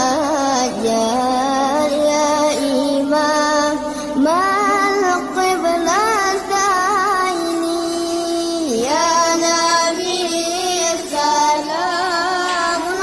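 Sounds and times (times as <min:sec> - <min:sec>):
high voice chanting a melody: 0:00.0 - 0:13.0.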